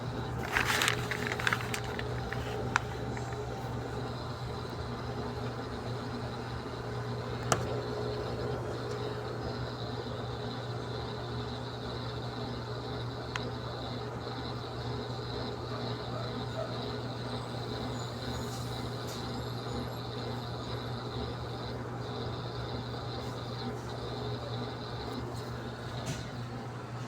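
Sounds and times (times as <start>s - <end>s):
washing machine humming: 0.0s - 27.0s.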